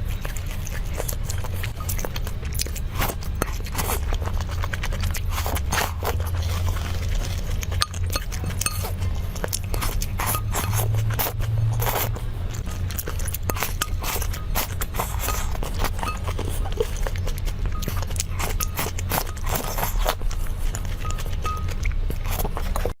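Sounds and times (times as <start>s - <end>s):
crunching bites and chews: 0.0s - 22.9s.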